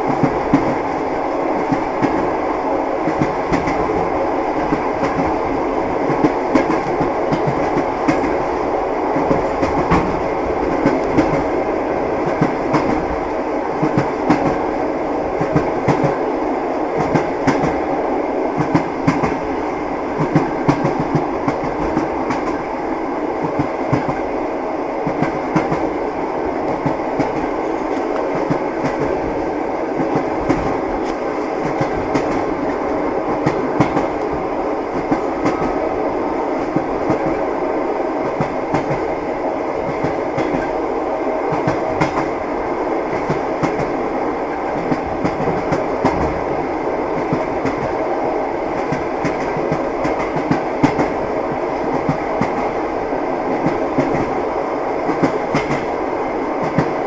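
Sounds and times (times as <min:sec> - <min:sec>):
train wheels clickety-clack: 0:00.0 - 0:24.3, 0:25.0 - 0:57.0
train rumble from inside carriage: 0:00.0 - 0:57.0.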